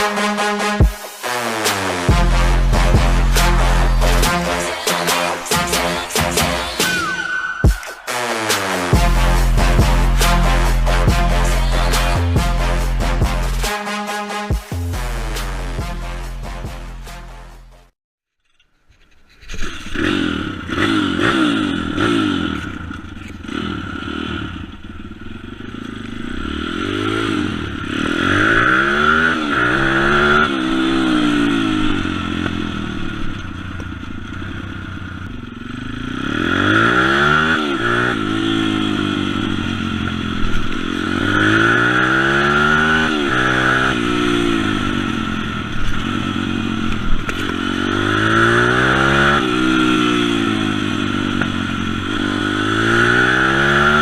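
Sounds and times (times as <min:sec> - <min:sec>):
pit bike engine revving: 0:00.0 - 0:07.2, 0:08.0 - 0:13.7, 0:19.6 - 0:54.0.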